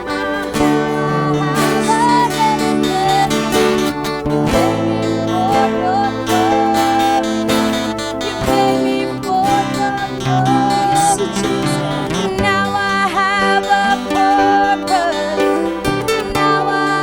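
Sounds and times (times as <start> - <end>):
instrumental worship band music: 0.0 - 17.0
sliding melody line: 0.0 - 17.0
strummed guitar: 0.0 - 17.0.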